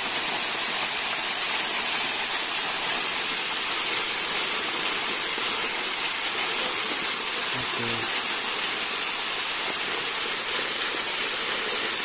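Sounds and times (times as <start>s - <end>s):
waterfall pouring and splashing: 0.0s - 12.0s.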